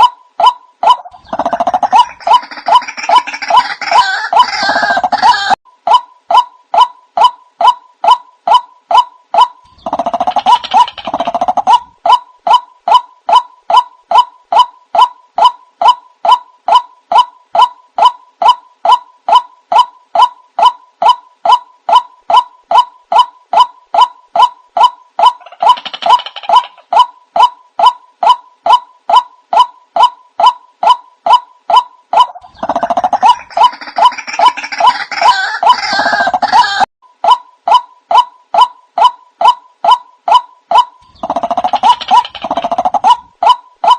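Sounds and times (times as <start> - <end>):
waterhen calling: 0.0 - 36.9.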